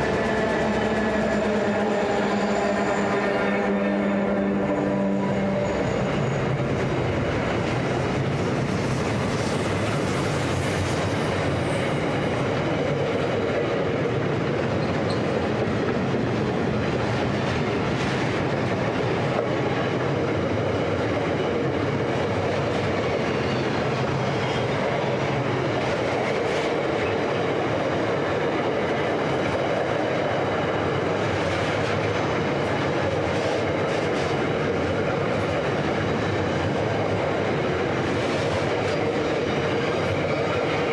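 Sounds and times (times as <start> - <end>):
steel wheels rumbling on rail: 0.0 - 40.9.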